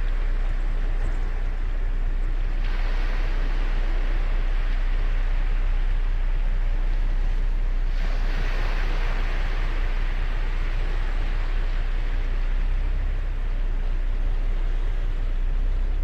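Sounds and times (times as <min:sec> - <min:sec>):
low rumble of sea: 0:00.0 - 0:16.0
waves breaking on beach: 0:00.0 - 0:16.0.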